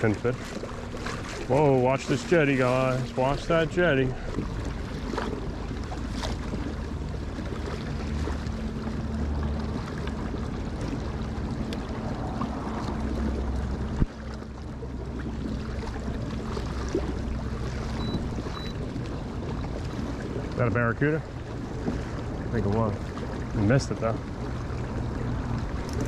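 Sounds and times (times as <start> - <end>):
faint steady hum: 0.0 - 26.0
water rushing along kayak hull: 0.0 - 26.0.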